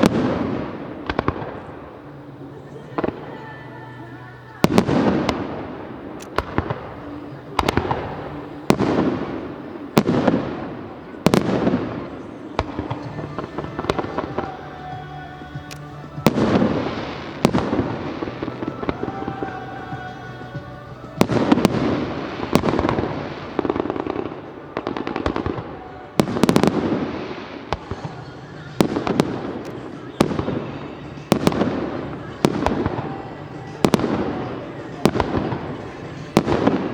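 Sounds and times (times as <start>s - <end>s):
fireworks bursting: 0.0s - 36.9s
music playing: 0.0s - 36.9s.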